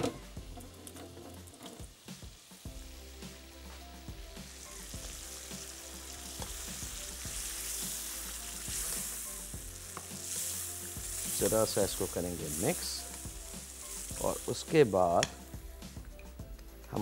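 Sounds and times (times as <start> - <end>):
food sizzling in a wok: 0.0 - 16.8.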